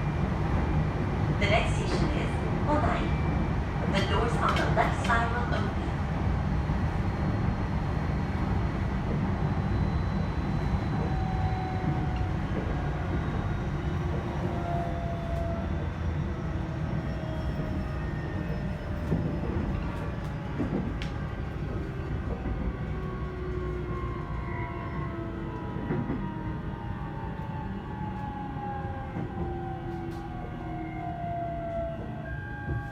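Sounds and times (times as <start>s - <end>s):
train wheels rumbling on rail: 0.0s - 32.9s.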